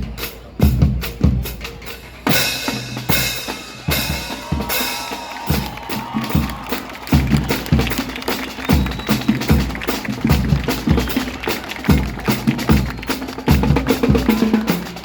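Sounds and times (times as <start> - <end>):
bass and snare drums: 0.0 - 15.0.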